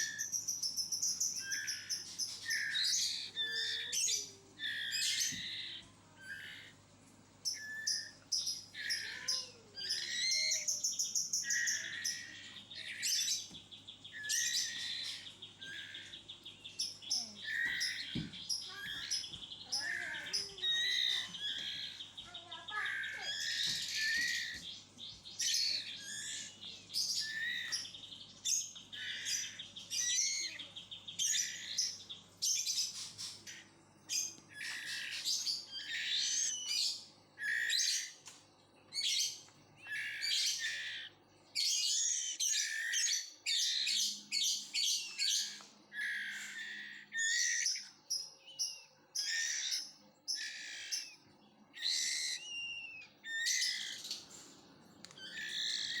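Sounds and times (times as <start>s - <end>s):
bird chicks chirping: 0.0s - 56.0s.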